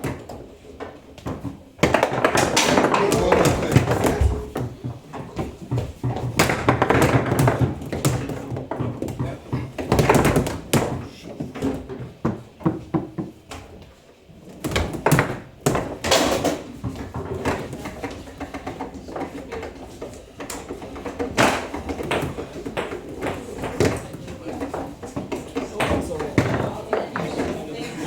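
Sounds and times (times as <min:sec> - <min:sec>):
table football knocks and clacks: 0:00.0 - 0:28.0.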